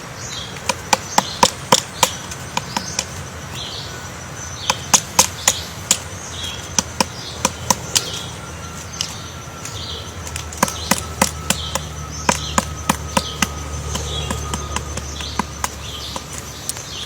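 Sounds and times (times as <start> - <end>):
sharp irregular clicks: 0.5 - 3.2, 4.6 - 17.0.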